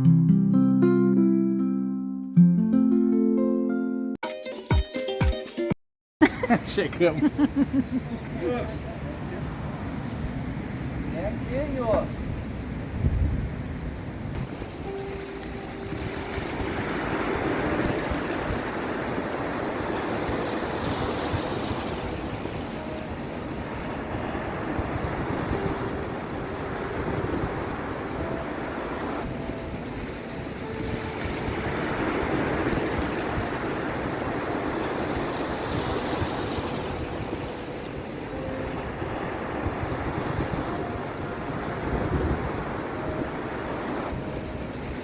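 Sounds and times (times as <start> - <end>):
surf rushing: 6.4 - 45.0
wind buffeting microphone: 7.0 - 45.0.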